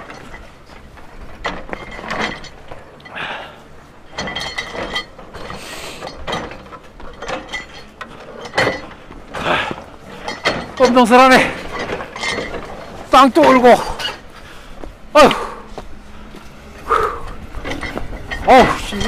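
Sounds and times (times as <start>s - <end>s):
excavator scraping frozen ground: 0.0s - 19.0s
steel clanking on hard earth: 0.0s - 19.0s.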